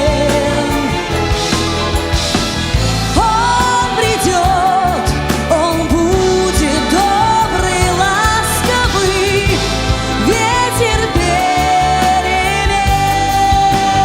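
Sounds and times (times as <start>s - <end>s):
steady bass and beat: 0.0s - 12.0s
lead melody with vibrato: 0.0s - 14.0s
orchestra playing a ballad: 0.0s - 14.0s.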